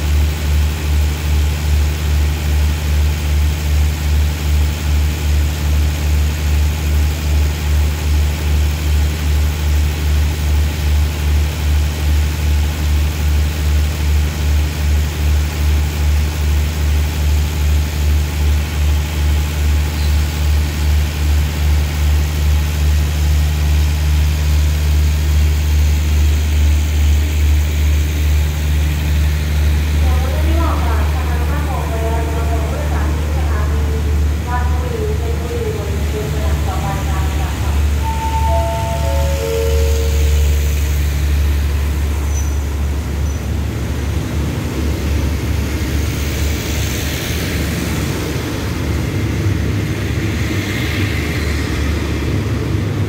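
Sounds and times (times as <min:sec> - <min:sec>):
diesel train engine droning: 0:00.0 - 0:53.0.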